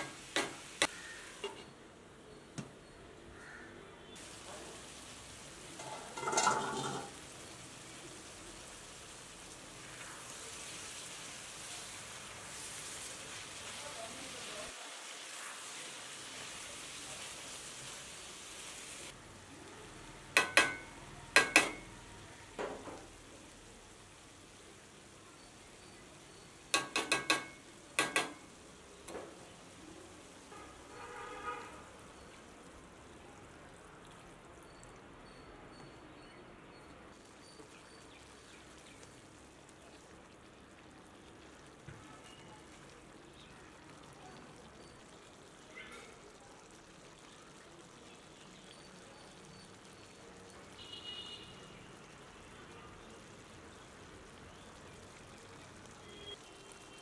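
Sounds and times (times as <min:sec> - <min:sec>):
curry sizzling in a pan: 0:00.0 - 0:01.8, 0:03.4 - 0:35.2, 0:36.8 - 0:57.0.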